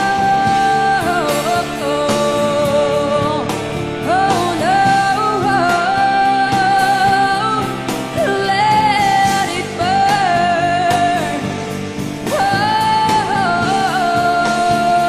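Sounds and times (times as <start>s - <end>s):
band playing: 0.0s - 15.0s
woman singing: 0.0s - 15.0s.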